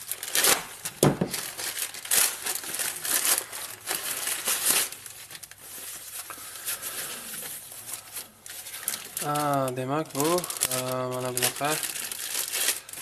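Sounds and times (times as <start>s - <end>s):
packing wrap rustling: 0.0s - 13.0s
plastic mailer bag tearing: 0.0s - 13.0s.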